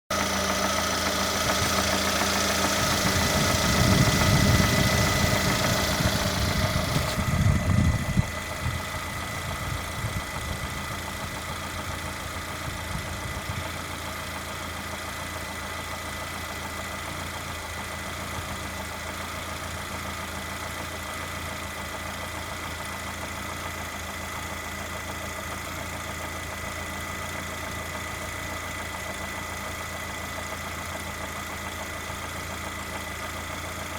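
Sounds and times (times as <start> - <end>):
car engine idling with a knock: 0.1 - 33.9.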